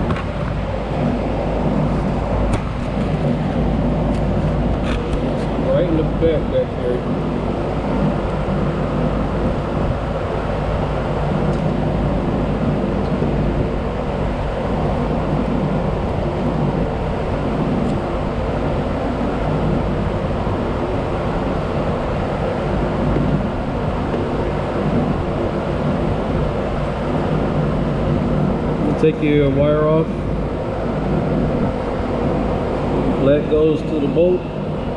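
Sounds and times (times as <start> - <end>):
machinery humming: 0.0 - 34.9
machinery rushing noise: 0.0 - 34.9.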